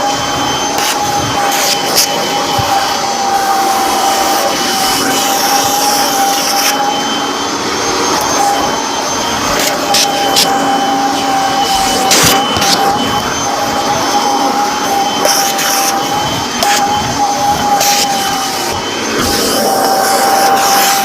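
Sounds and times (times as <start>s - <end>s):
vacuum cleaner motor whine: 0.0s - 21.0s.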